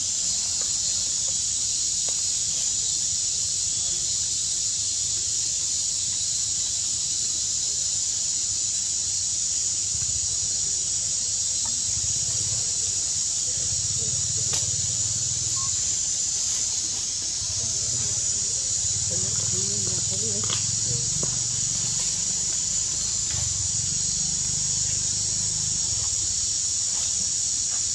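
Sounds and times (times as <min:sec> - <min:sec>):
high-pitched insect drone: 0:00.0 - 0:27.9.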